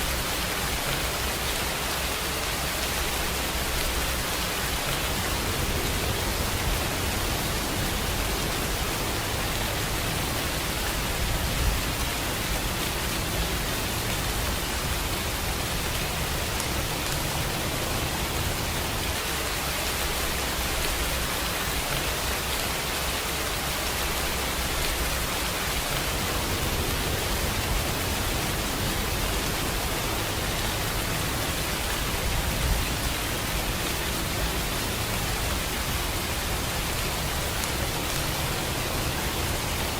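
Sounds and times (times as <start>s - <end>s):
rain drops splashing: 0.0s - 39.9s
steady rainfall: 0.0s - 39.9s.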